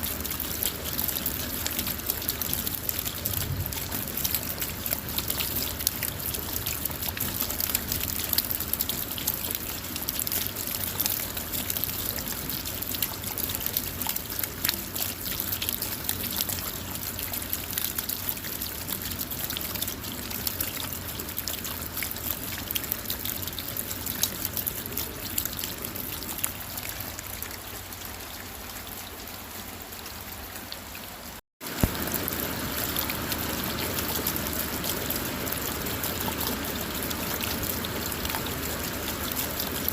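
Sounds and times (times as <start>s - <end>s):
rain falling on a car: 0.0s - 39.9s
water trickling: 0.0s - 39.9s.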